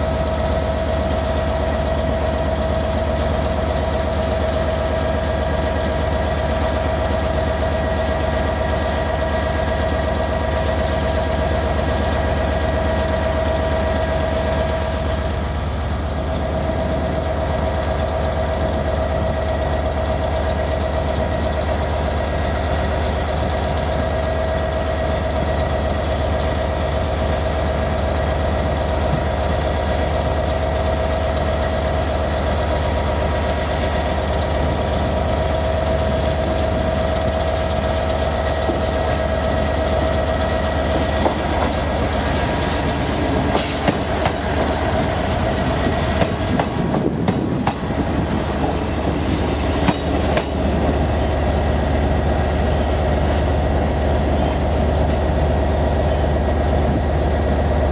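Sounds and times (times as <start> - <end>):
train diesel engine drone: 0.0 - 57.9.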